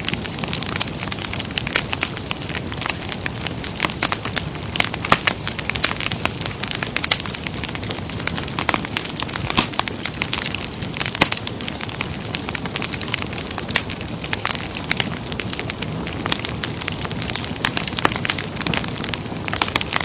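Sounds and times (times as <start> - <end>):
hiss of flames: 0.0 - 20.0
wood fire crackling and popping: 0.0 - 20.0.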